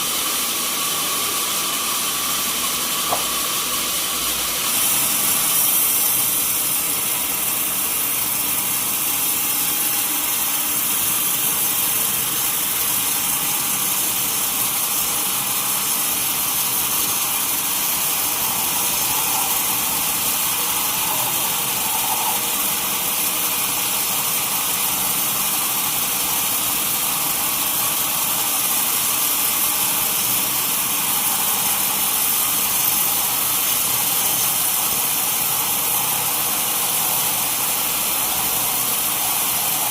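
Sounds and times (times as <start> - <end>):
sawmill saw hissing: 0.0 - 39.9.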